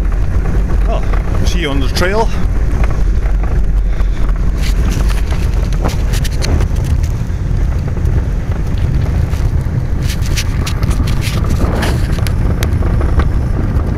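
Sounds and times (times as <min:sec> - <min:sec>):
sharp clicks and knocks: 0:00.0 - 0:13.4
low rumble of rolling tyres: 0:00.0 - 0:13.9
wind buffeting microphone: 0:00.0 - 0:13.9.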